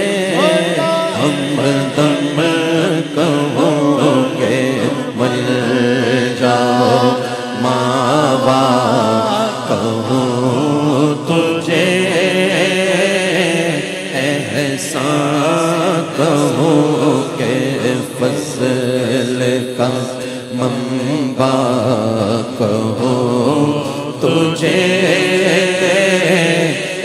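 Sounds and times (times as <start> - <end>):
man singing ornamented melody: 0.0 - 27.0.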